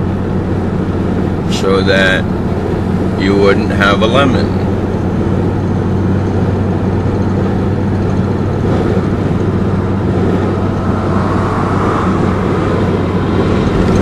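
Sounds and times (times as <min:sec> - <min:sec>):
diesel engine drone: 0:00.0 - 0:14.0
tyre and road noise: 0:00.0 - 0:14.0.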